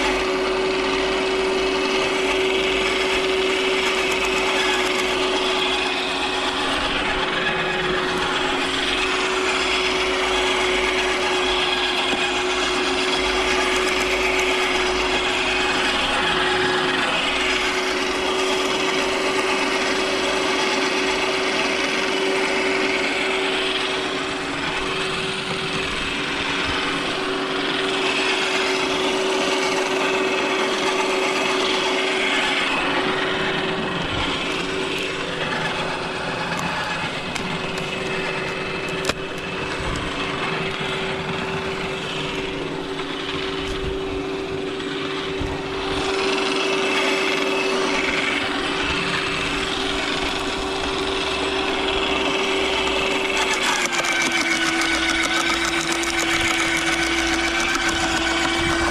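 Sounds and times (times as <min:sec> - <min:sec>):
branch shredder grinding: 0:00.0 - 0:58.9.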